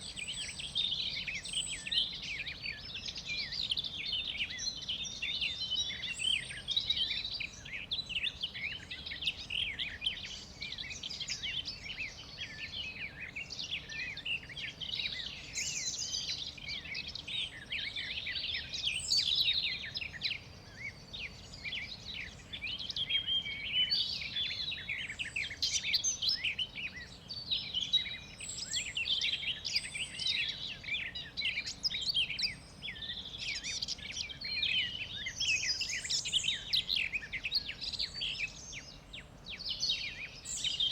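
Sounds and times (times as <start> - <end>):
low steady background hiss: 0.0 - 40.9
songbirds chirping and trilling: 0.0 - 40.9.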